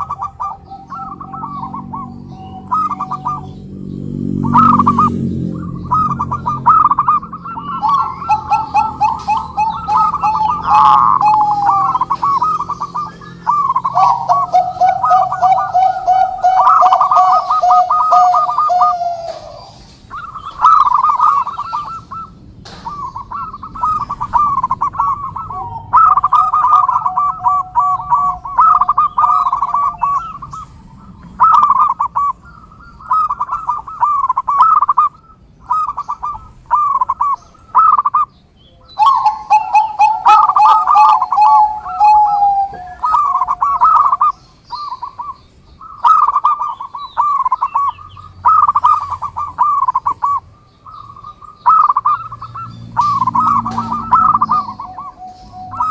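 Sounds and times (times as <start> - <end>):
doves cooing: 0.0 - 55.9
lower steady coo: 4.4 - 55.9.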